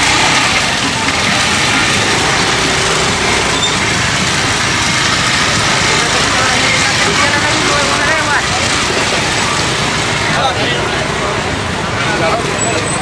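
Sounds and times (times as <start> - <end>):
motorcycle engines at low speed: 0.0 - 13.0
traffic din: 0.0 - 13.0.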